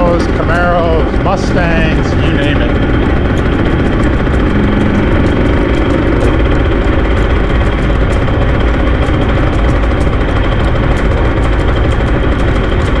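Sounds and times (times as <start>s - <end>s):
engine rumbling at low speed: 0.0s - 13.0s
light fast ticking: 0.0s - 13.0s.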